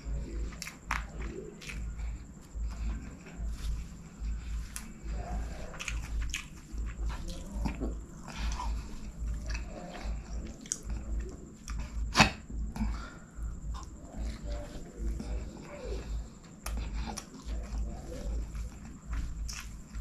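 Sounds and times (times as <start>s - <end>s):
person chewing with mouth smacks: 0.0s - 20.0s.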